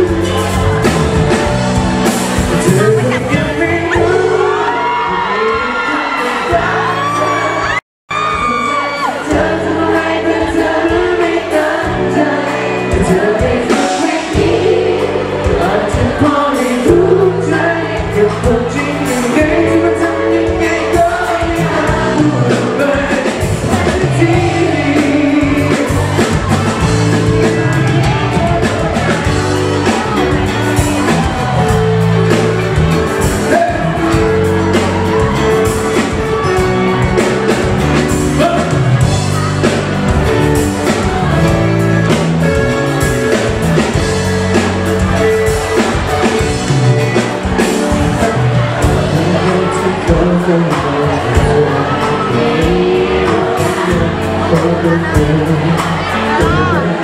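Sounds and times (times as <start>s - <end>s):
man singing lead vocal: 0.0s - 1.4s, 2.4s - 39.8s, 47.6s - 57.0s
live pop band playing: 0.0s - 57.0s.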